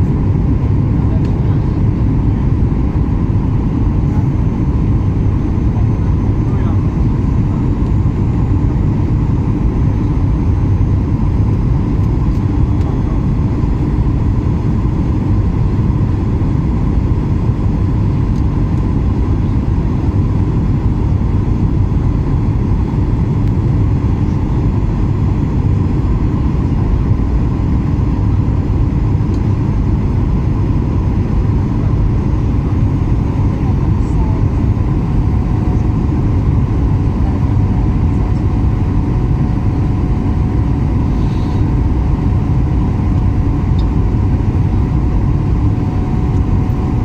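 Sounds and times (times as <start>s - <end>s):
faint engine whine: 0.0s - 47.0s
jet engine low rumble: 0.0s - 47.0s.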